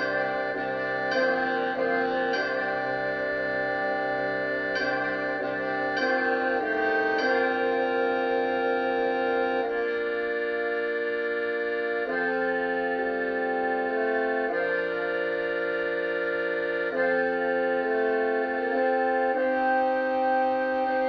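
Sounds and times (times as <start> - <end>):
wind band playing held chords: 0.0 - 21.0.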